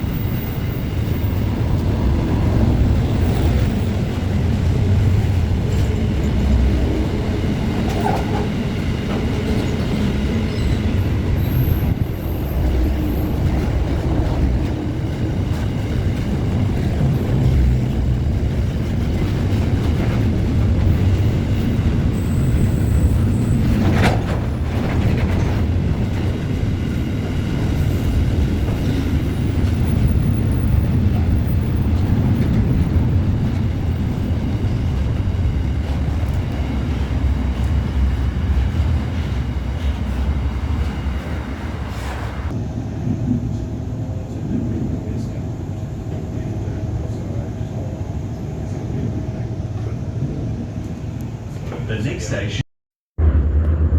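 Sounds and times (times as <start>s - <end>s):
train wheels rumbling on rails: 0.0s - 52.6s.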